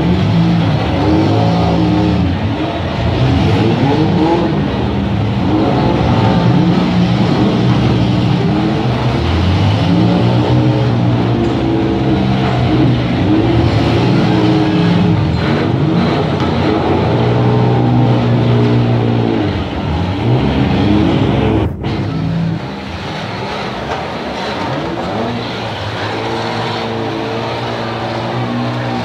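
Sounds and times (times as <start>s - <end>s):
car engines running and revving: 0.0s - 29.0s.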